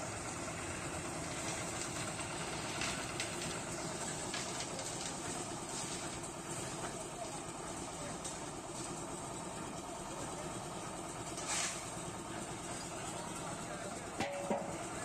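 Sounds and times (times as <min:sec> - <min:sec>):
concrete mixer running: 0:00.0 - 0:15.0.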